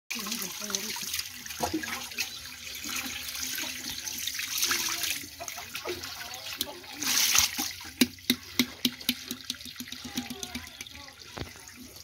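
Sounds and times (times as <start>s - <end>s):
tap water splashing: 0.2s - 12.0s.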